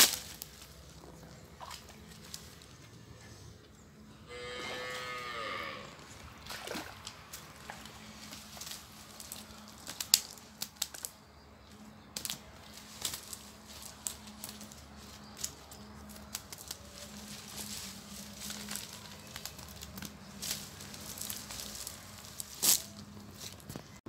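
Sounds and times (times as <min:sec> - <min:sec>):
dry leaves crackling and rustling: 0:00.0 - 0:03.0, 0:06.5 - 0:24.0.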